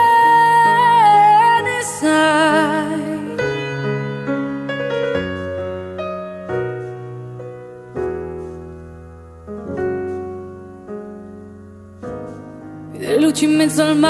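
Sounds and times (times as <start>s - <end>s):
solo piano playing slow chords: 0.0s - 14.0s.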